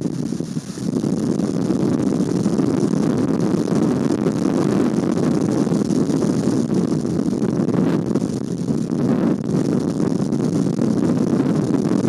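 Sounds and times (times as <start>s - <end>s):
heavy rain: 0.0s - 12.0s
wind: 0.0s - 12.0s.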